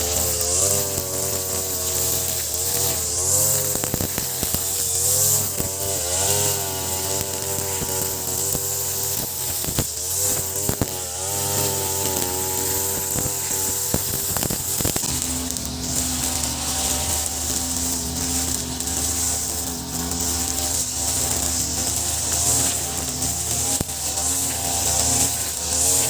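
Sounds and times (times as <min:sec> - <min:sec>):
brush cutter engine running: 0:00.0 - 0:26.0.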